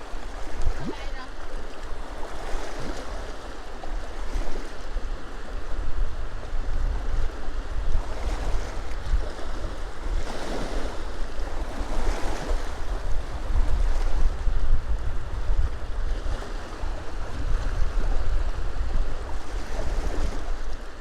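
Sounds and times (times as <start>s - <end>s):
small waves washing onto shore: 0.0s - 21.0s
wind buffeting microphone: 0.0s - 21.0s.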